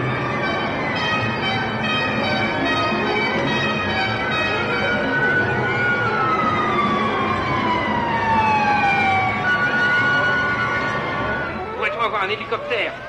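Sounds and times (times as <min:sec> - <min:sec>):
wailing siren-like tones: 0:00.0 - 0:13.0.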